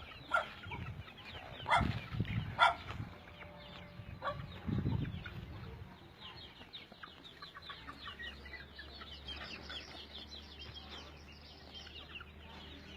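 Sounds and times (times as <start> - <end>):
chickens calling: 0.0 - 12.9.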